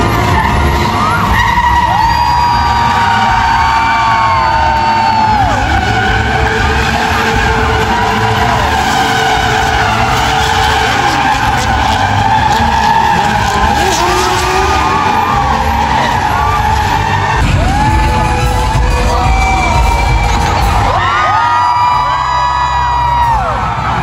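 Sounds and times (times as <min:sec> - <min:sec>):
motorcycles running: 0:00.0 - 0:21.1
car engines revving: 0:00.0 - 0:24.0
tyres squealing and skidding: 0:00.0 - 0:24.0.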